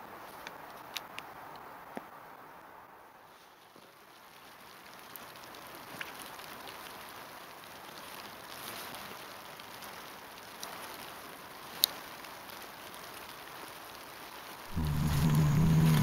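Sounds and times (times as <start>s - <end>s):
small clicks and crackles: 0.0s - 2.1s, 3.3s - 16.0s
faint woodland hiss: 0.0s - 16.0s.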